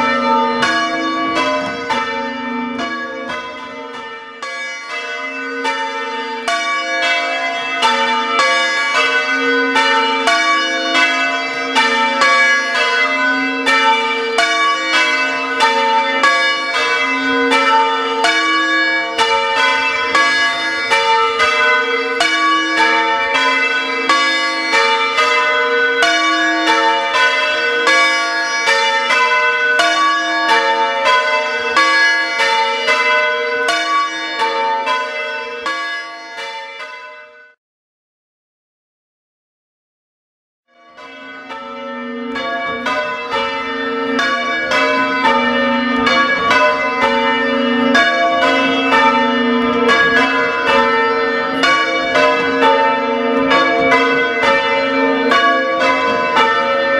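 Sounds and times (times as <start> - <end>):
church bells ringing changes: 0.0 - 37.6, 40.7 - 56.9.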